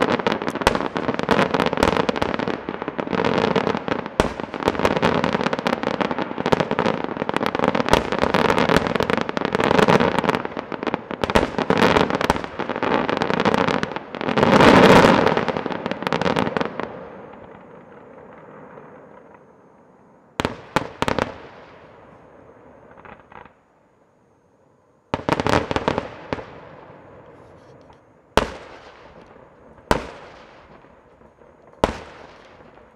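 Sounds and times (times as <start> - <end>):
loud fireworks bangs with echo: 0.0 - 19.3, 20.4 - 23.6, 25.1 - 27.4, 28.3 - 32.9
fireworks bursts and crackle: 0.0 - 23.8, 25.1 - 32.9.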